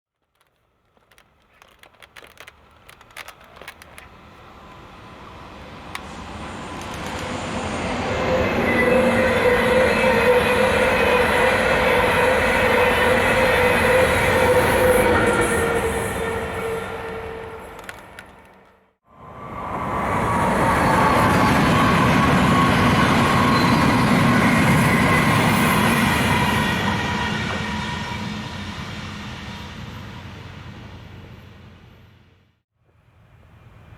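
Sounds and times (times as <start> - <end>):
train passing: 0.3 - 33.9.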